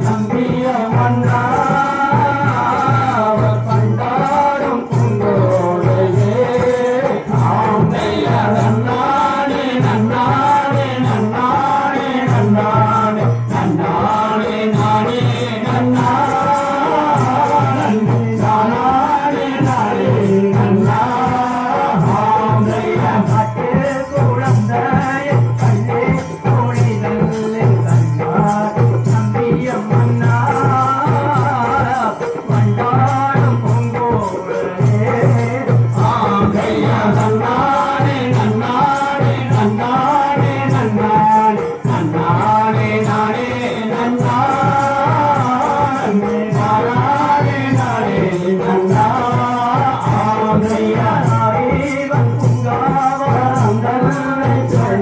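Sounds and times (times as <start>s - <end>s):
percussion steady beat: 0.0s - 55.0s
voices singing a folk song: 0.0s - 55.0s.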